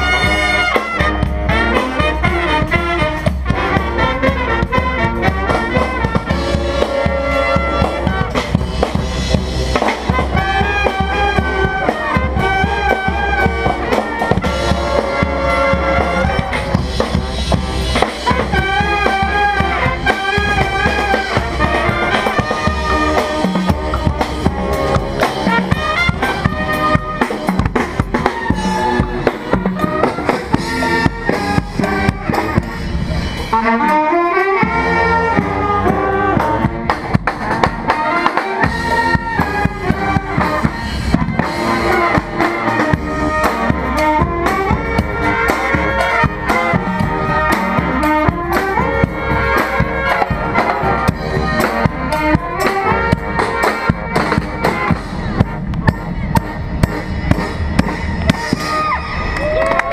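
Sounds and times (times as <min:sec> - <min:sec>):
brass band playing: 0:00.0 - 0:59.9
drums keeping steady beat: 0:00.0 - 0:59.9.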